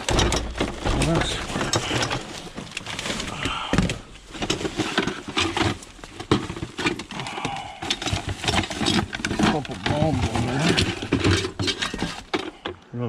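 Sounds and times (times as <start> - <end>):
rustling: 0.0 - 12.8
objects knocking and clattering: 0.0 - 12.9.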